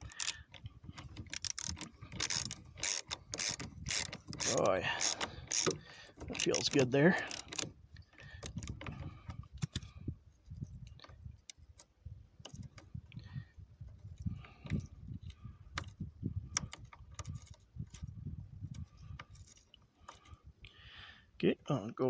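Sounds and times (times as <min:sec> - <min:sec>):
light metallic clicks and rattles: 0:00.0 - 0:20.4.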